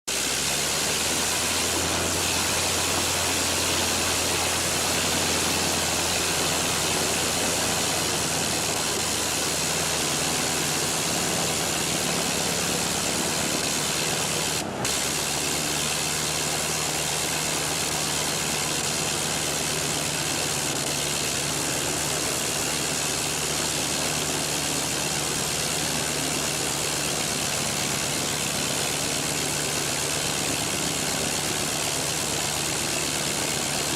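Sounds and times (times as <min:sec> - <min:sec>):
plane engine and propeller: 0:00.1 - 0:33.9.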